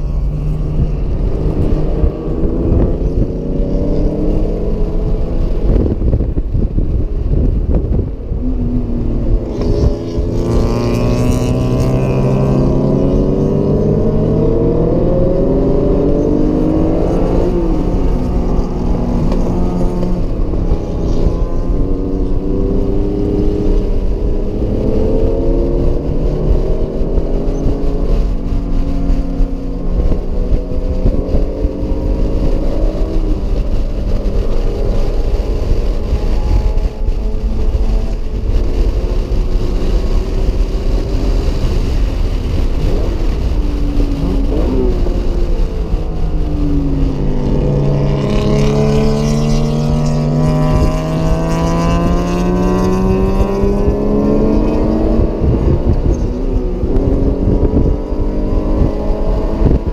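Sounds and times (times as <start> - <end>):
car engine accelerating: 0.0 - 59.9
low road rumble: 0.0 - 59.9.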